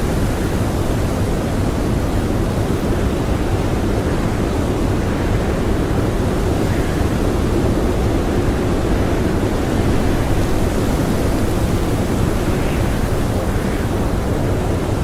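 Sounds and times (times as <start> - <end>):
strong blizzard wind blowing: 0.0 - 15.0.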